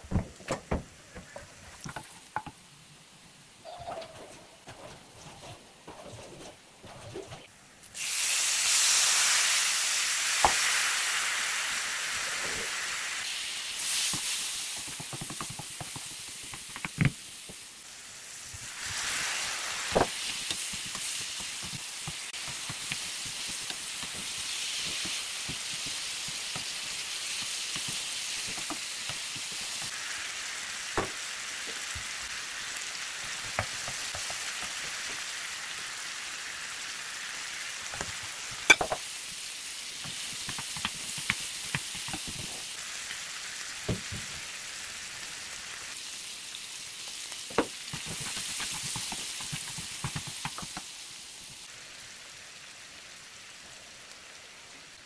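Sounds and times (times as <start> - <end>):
food sizzling in a pan: 7.5 - 55.0.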